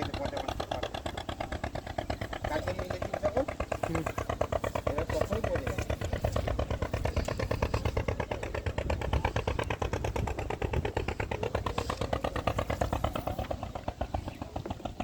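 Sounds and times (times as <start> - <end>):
small boat engine chugging: 0.0 - 15.0.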